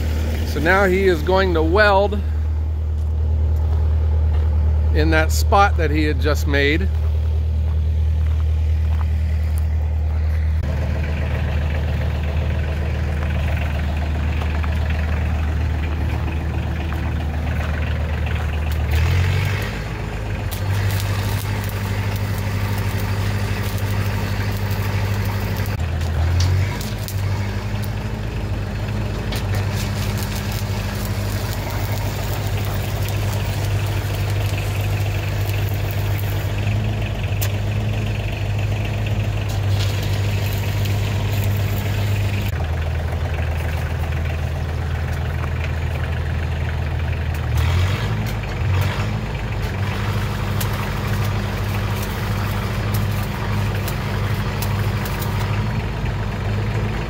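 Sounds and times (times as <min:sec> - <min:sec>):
welding arc crackling: 0:00.0 - 0:02.2, 0:05.0 - 0:46.0, 0:47.3 - 0:55.9
arc welder humming: 0:00.0 - 0:56.8.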